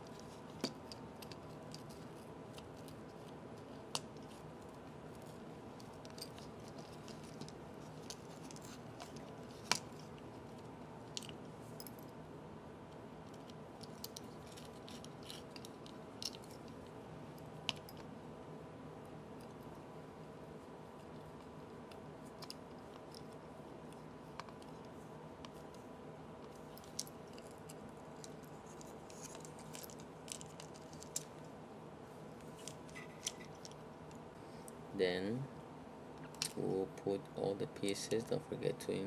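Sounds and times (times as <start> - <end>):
faint hum: 0.0 - 39.0.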